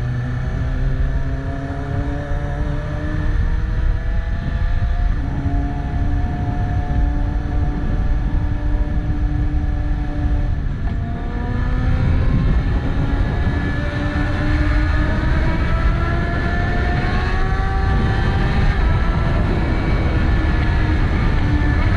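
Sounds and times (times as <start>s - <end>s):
motorcycle engine revving: 0.0s - 21.9s
heavy low rumble: 2.6s - 21.9s.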